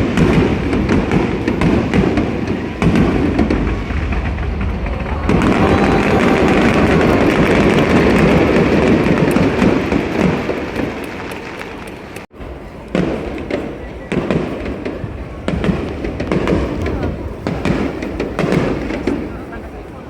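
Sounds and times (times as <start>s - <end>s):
fireworks bangs and crackle: 0.0s - 20.0s.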